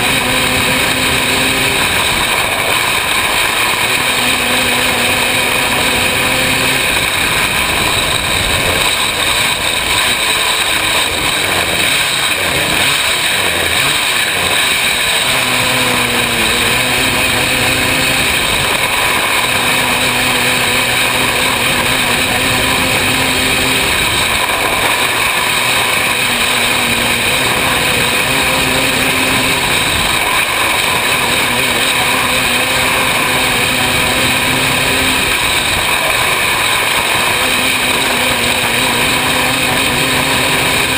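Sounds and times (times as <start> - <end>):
race car engine at high revs: 0.0 - 40.9
steady rush of noise: 0.0 - 40.9.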